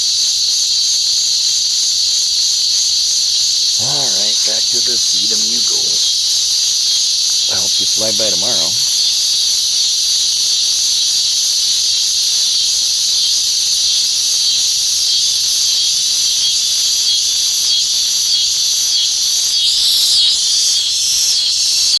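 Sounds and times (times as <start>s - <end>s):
insect chorus drone: 0.0s - 22.0s.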